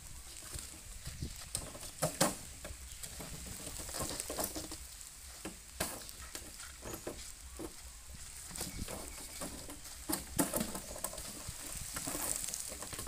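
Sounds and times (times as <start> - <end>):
elephant shuffling on damp earth: 0.0 - 13.0.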